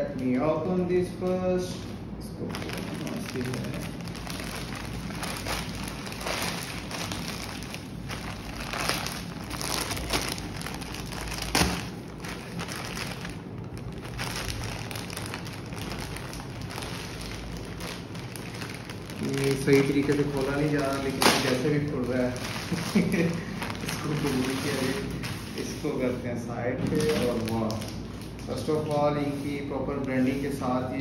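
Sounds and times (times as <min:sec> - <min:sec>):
plastic mailer crinkling: 0:01.2 - 0:25.9, 0:26.8 - 0:30.2
plastic ripping: 0:02.4 - 0:25.8, 0:26.8 - 0:30.4.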